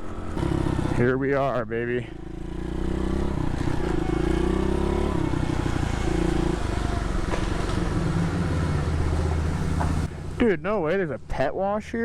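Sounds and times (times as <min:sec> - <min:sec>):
motorbike engine running: 0:00.0 - 0:01.3, 0:02.0 - 0:10.4.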